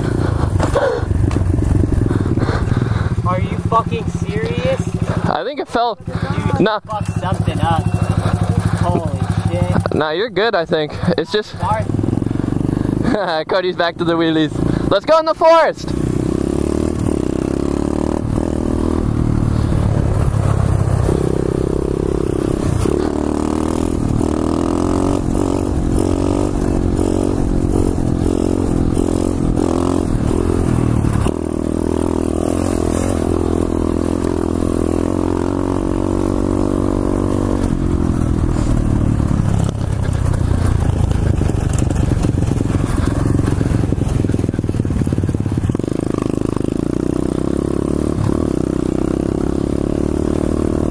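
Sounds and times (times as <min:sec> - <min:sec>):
motorbike engine revving: 0:00.0 - 0:50.9.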